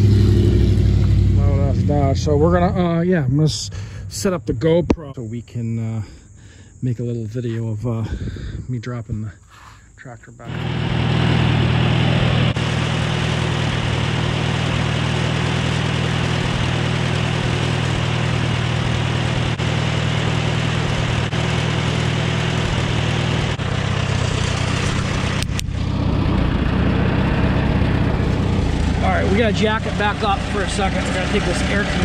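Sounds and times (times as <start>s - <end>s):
tractor engine idling: 0.0s - 6.8s, 9.8s - 32.0s.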